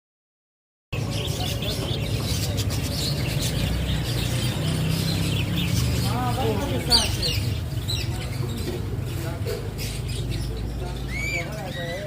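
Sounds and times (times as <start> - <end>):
cage birds chirping: 0.9 - 12.0.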